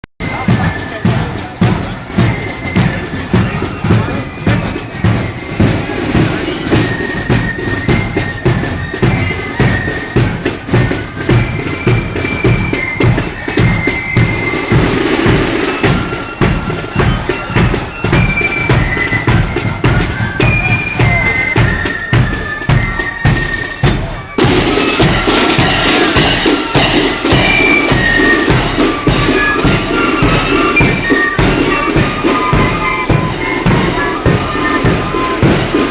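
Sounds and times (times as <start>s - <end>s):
bass drum and snare beat: 0.2s - 35.9s
marching band playing: 0.2s - 35.9s.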